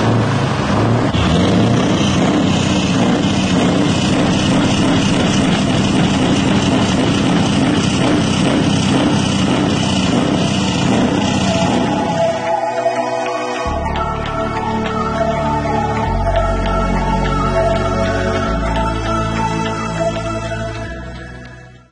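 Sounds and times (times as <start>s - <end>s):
truck diesel engine running: 0.0s - 21.9s.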